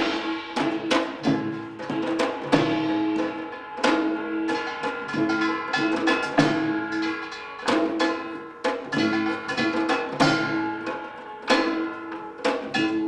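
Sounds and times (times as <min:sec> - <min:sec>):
drum strokes: 0:00.0 - 0:13.0.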